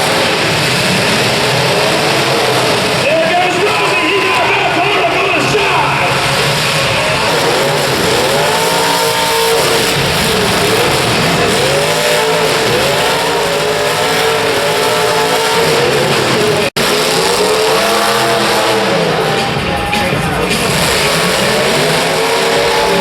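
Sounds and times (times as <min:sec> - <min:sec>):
car engines revving: 0:00.0 - 0:23.0
roar of several cars: 0:00.0 - 0:23.0.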